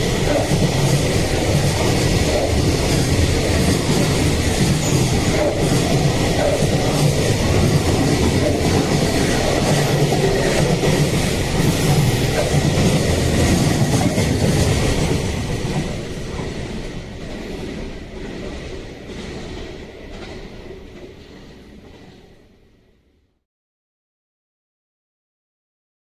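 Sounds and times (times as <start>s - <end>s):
freight train passing: 0.0s - 23.2s.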